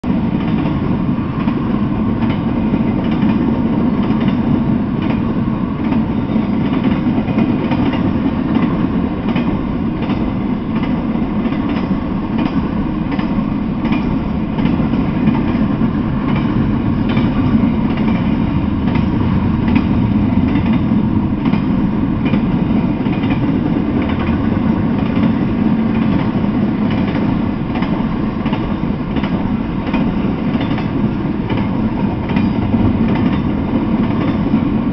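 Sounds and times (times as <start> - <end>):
train wheels running on rails: 0.0 - 34.9.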